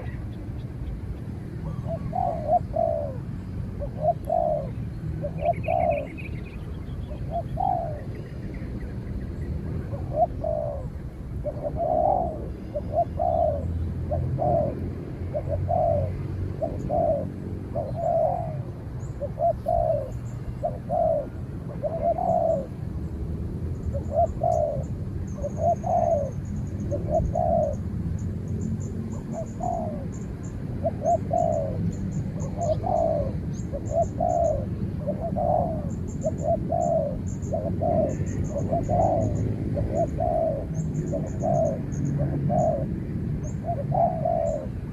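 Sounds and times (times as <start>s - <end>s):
doves cooing: 0.0s - 0.4s, 1.3s - 22.9s, 23.8s - 44.9s.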